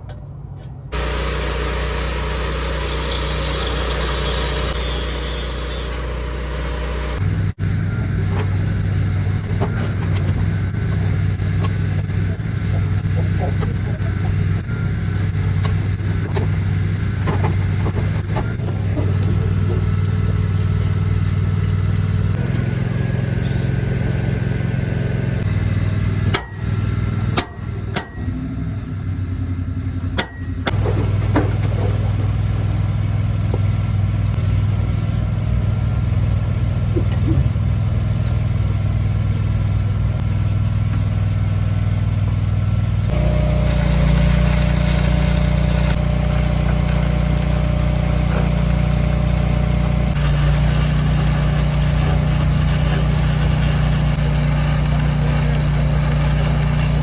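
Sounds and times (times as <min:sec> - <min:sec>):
engine idling: 0:06.2 - 0:57.0.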